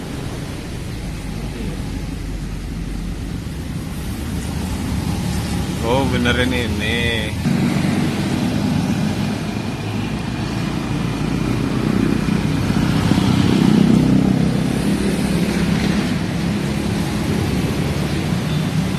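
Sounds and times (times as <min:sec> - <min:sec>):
vehicle engine rumbling: 0:00.0 - 0:18.9.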